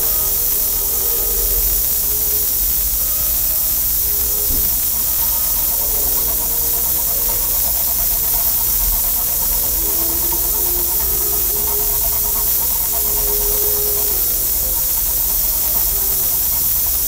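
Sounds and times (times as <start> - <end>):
steady loud hiss: 0.0 - 17.0.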